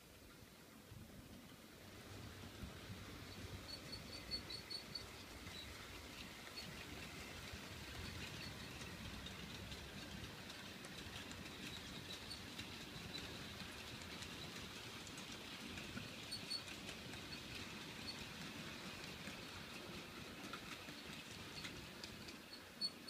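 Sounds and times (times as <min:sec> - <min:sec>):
model train wagons rumbling: 0:01.2 - 0:23.0
wheels clicking over rails: 0:01.3 - 0:23.0.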